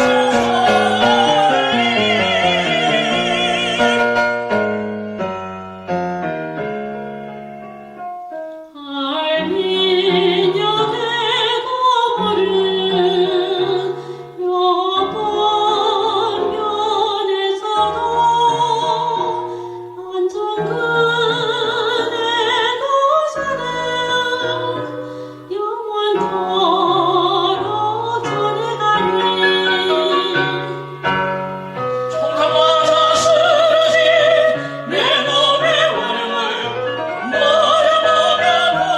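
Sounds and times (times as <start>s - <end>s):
operatic singing with vibrato: 0.0s - 4.8s, 8.8s - 38.9s
piano accompaniment: 0.0s - 38.9s.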